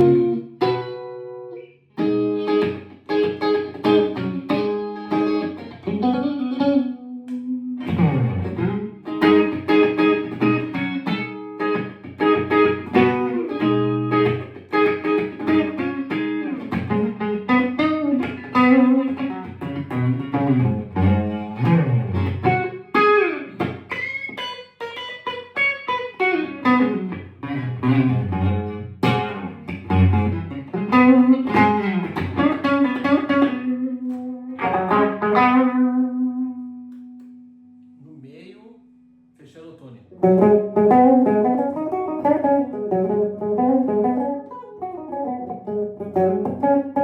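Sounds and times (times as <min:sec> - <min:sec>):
electric guitar playing: 0:00.0 - 0:38.0, 0:40.1 - 0:47.0.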